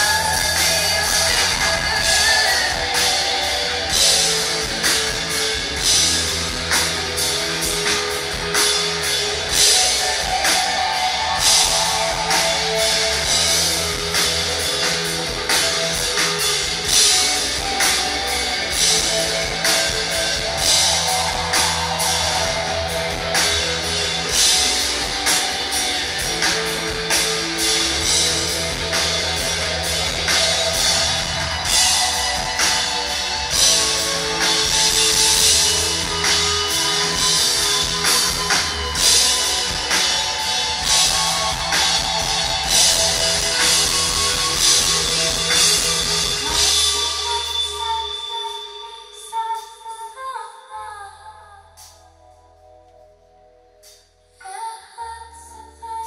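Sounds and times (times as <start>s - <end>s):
drum kit beat: 0.0s - 47.6s
electric guitars: 0.0s - 48.8s
bass guitar: 0.0s - 48.9s.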